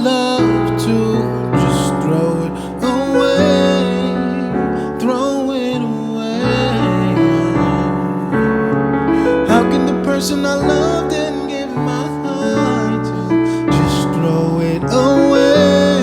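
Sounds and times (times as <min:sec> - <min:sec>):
slow piano and keyboard music: 0:00.0 - 0:16.0.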